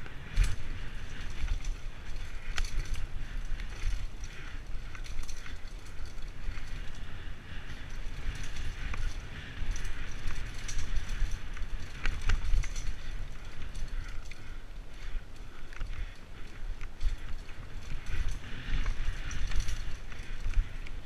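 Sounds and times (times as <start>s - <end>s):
bike rattling and clicking: 0.0s - 21.0s
bike tyres crunching on dirt: 0.0s - 21.0s
wind rumble on microphone: 0.0s - 21.0s.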